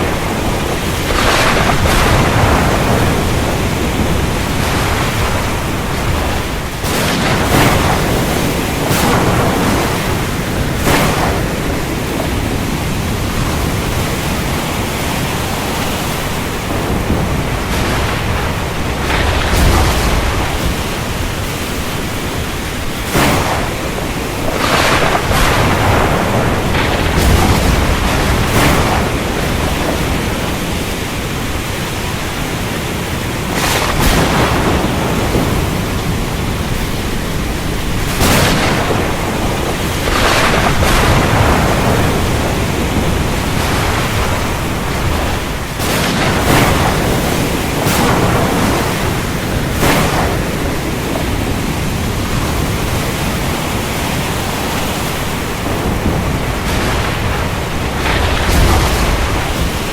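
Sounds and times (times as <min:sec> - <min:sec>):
heavy rain falling: 0:00.0 - 0:59.9
thunder cracks: 0:00.0 - 0:59.9.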